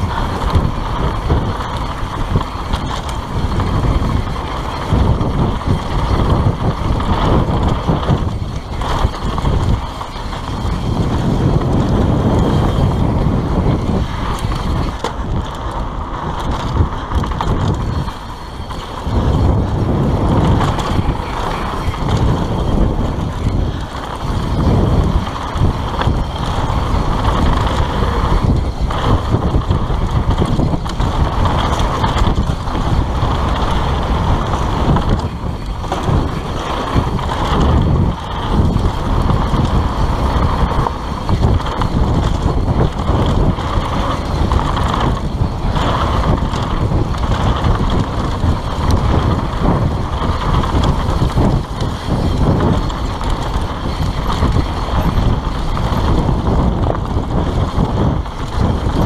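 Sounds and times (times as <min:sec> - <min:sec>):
bike rattling: 0:00.0 - 0:59.0
rumble of knobby tyres: 0:00.0 - 0:59.0
wind buffeting microphone: 0:00.0 - 0:59.0.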